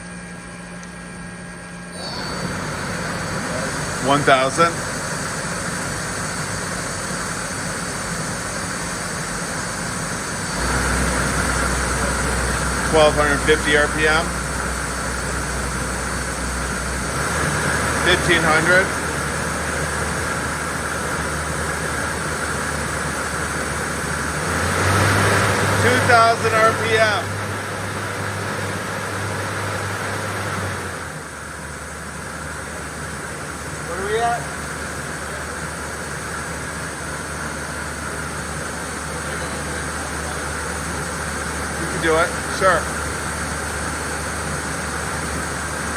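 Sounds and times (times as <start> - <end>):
lathe spindle humming: 0.0 - 45.9.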